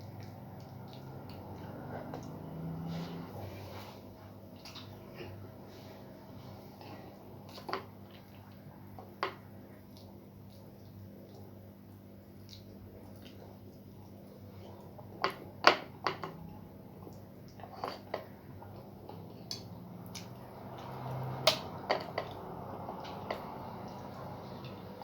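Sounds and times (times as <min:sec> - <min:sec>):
eating clicks and smacks: 0:00.0 - 0:02.8, 0:07.4 - 0:24.9.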